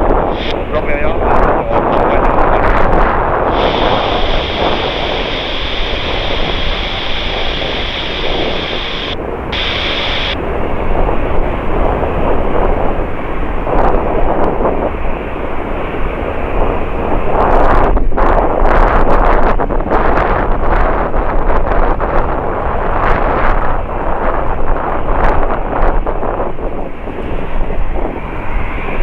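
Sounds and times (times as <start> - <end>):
high steady whine: 0.0 - 19.6, 22.3 - 29.0
jet airliner rumble: 0.0 - 29.0
wind buffeting microphone: 0.0 - 29.0.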